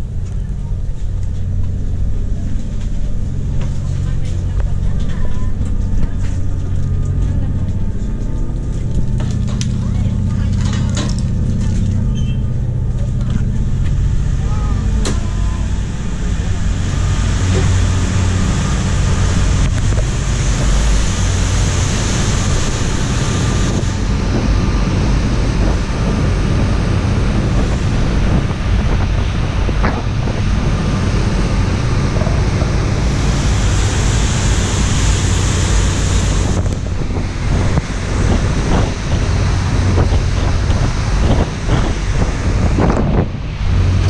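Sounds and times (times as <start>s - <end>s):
ferry engines droning: 0.0s - 44.0s
water rushing from wake: 0.0s - 44.0s
wind buffeting microphone: 0.0s - 44.0s.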